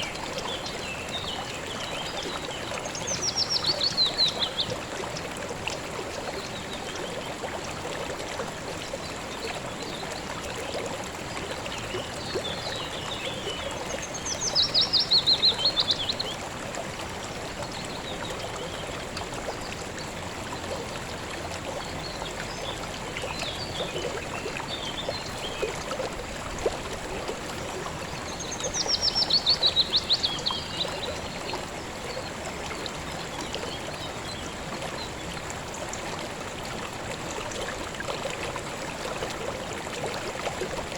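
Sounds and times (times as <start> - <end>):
flowing river: 0.0 - 40.9.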